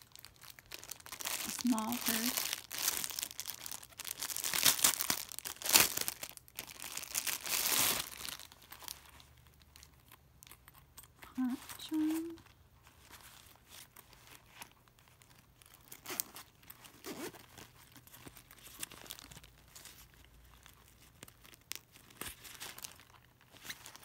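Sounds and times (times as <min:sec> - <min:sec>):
fabric purse rustling: 0:00.1 - 0:10.6, 0:11.4 - 0:24.0.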